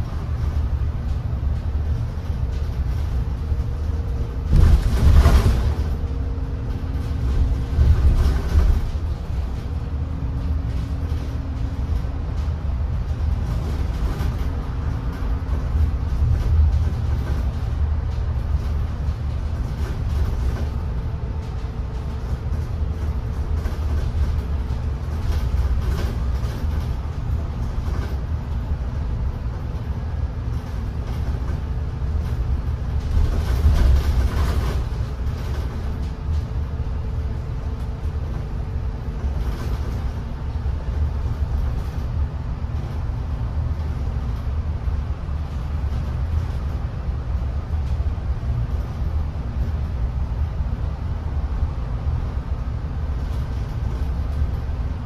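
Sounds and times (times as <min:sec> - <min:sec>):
vehicle rumble from inside: 0:00.0 - 0:55.0.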